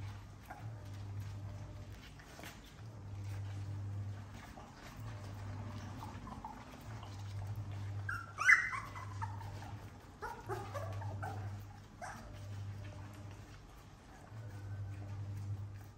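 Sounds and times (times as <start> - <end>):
puppies whimpering and yipping: 0.0 - 15.9
steady low hum: 0.0 - 15.9.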